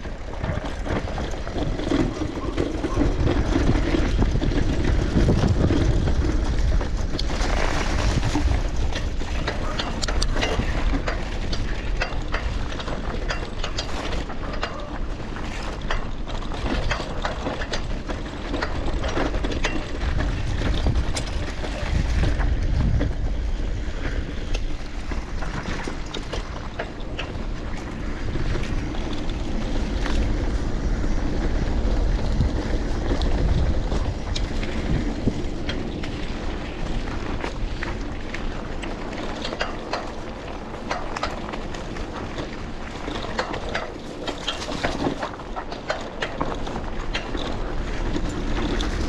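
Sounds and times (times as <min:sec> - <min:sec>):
bicycle clicks and rattles: 0:00.0 - 0:49.0
tyres rolling on road: 0:00.0 - 0:49.0
wind buffeting microphone: 0:00.0 - 0:49.0.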